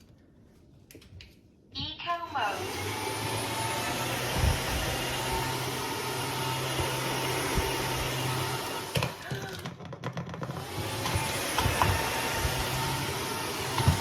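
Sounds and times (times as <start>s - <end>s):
vacuum mop motor hum: 2.4s - 14.0s.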